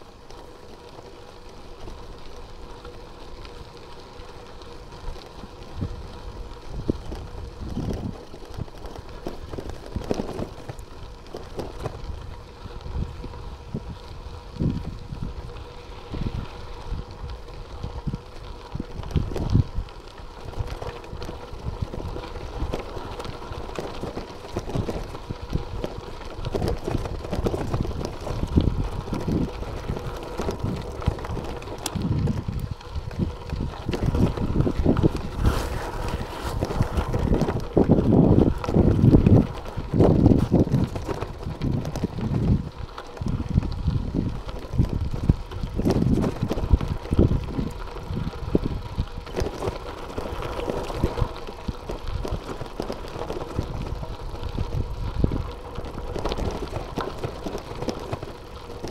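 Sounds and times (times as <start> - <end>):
bicycle riding over gravel: 0.0 - 58.9
wind buffeting microphone: 4.8 - 58.9.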